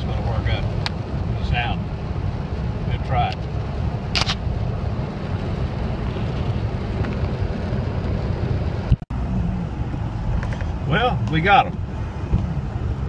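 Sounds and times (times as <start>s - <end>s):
car road noise on wet pavement: 0.0s - 13.0s.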